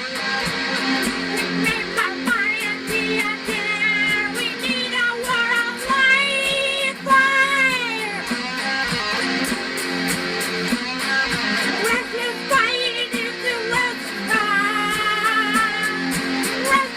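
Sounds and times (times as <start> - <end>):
lead guitar bending notes: 0.0 - 16.9
steady beat: 0.0 - 16.9
strummed guitar: 0.0 - 16.9.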